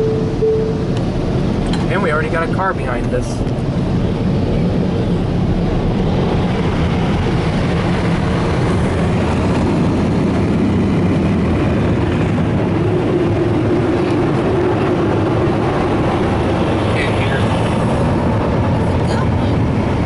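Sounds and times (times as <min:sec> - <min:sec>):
car wash dryer blowers: 0:00.0 - 0:20.0
steady hum: 0:00.0 - 0:20.0.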